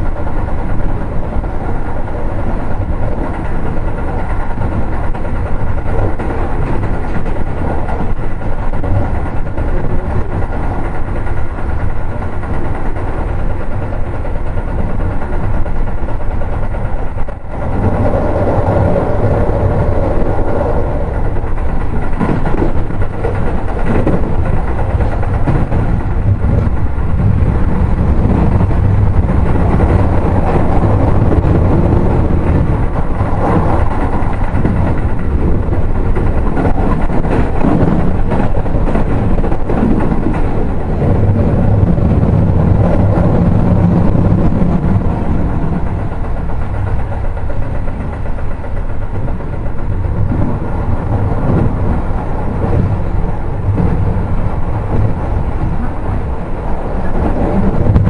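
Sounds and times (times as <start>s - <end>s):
electric train held tone: 0.0s - 58.0s
train wheels rumbling on rails: 0.0s - 58.0s.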